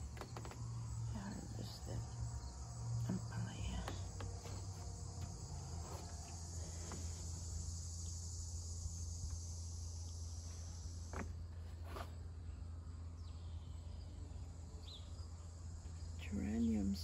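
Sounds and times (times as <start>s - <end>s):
insect chorus trilling: 0.0s - 17.0s
low hum: 0.0s - 17.0s.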